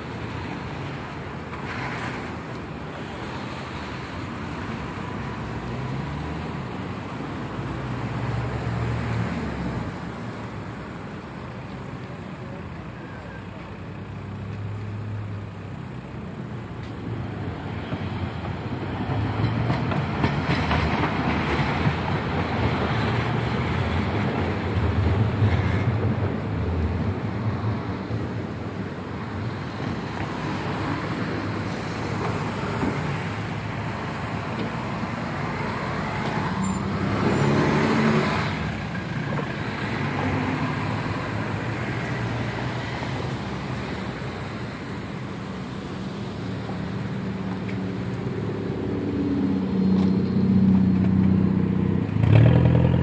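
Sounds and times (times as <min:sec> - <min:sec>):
cars driving past: 0:00.0 - 0:53.0.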